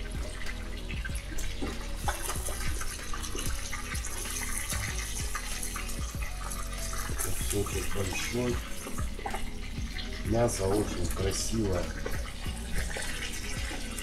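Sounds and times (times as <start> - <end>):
meat deep-frying in oil: 0.0 - 14.0.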